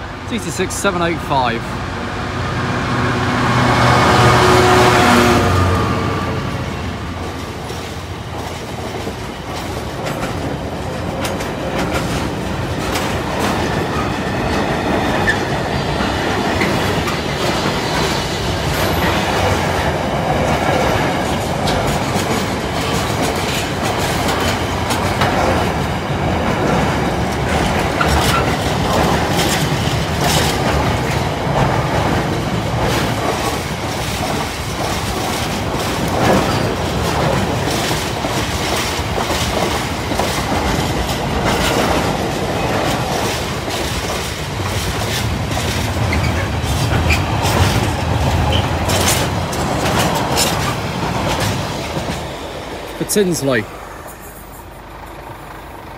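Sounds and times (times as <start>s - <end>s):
diesel locomotive passing: 0.0s - 55.9s
train wheels clacking over rail joints: 7.2s - 53.0s.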